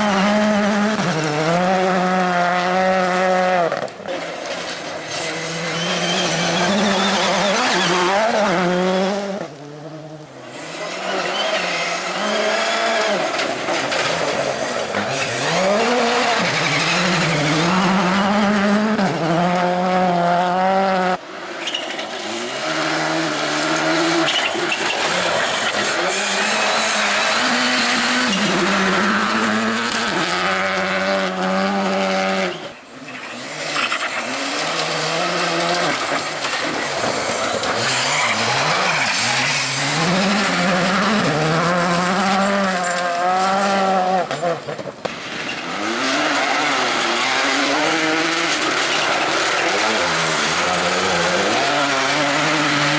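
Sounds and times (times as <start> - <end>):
rally car engines revving high: 0.0 - 52.9.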